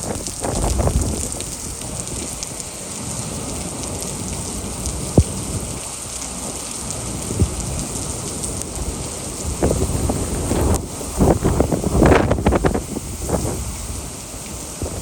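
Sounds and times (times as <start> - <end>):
rain and wind hissing: 0.0 - 15.0.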